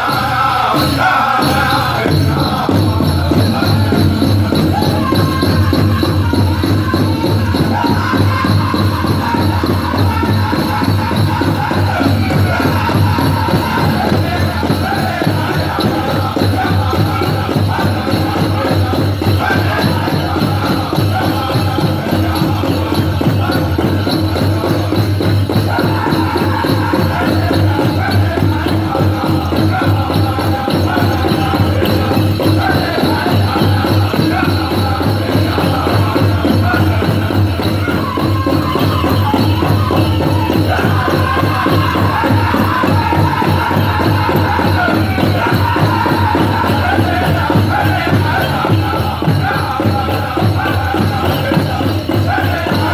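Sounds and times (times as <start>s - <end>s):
ankle bells jingling: 0.0s - 52.9s
big drum beat: 0.0s - 52.9s
group singing: 0.0s - 52.9s.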